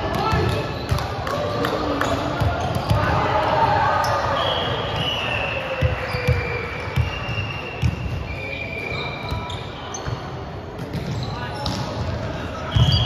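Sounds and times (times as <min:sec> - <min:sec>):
sneaker squeaks: 0:00.1 - 0:01.1, 0:01.9 - 0:03.0, 0:04.0 - 0:13.0.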